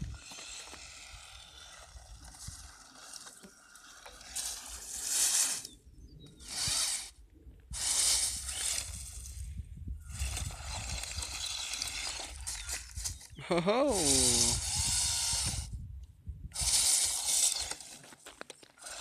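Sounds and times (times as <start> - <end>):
rc truck driving: 0.0 - 15.8, 16.5 - 19.0.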